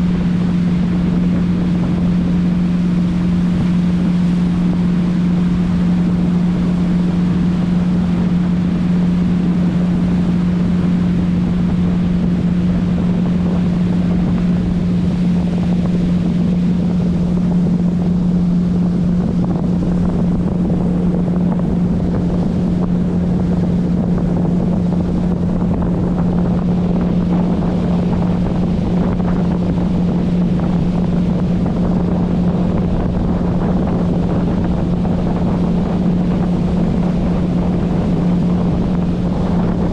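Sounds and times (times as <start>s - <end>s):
motorboat engine humming: 0.0s - 39.9s
wind and water rushing: 0.0s - 39.9s.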